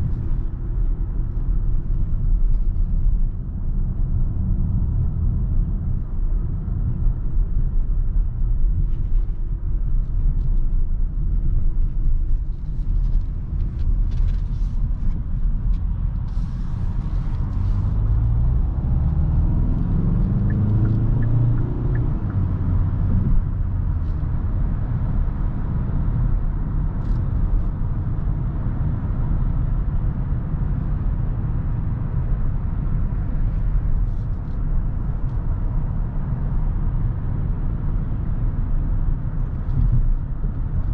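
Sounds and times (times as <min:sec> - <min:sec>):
diesel car engine driving: 0:00.0 - 0:40.9.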